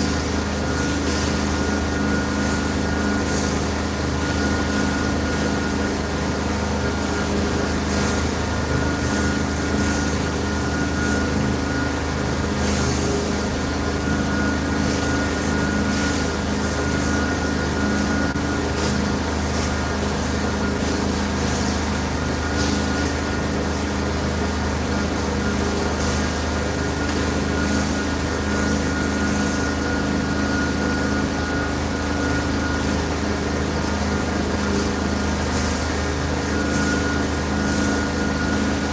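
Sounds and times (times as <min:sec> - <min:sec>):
thin high whine: 0:00.0 - 0:38.9.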